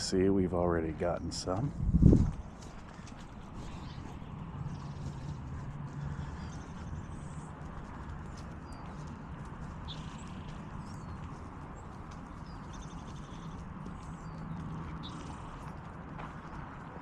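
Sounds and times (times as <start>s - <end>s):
footsteps on paved path: 0.0s - 17.0s
small birds chirping: 1.0s - 17.0s.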